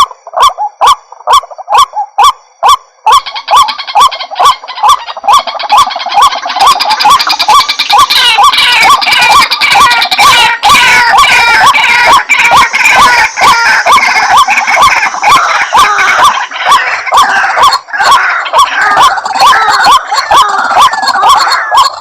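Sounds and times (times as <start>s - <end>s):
waterhen croaking calls: 0.0s - 22.0s.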